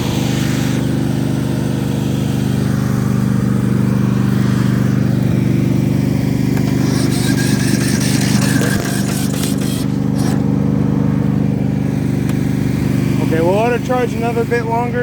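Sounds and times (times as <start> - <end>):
mower engine cranking: 2.5 - 15.0.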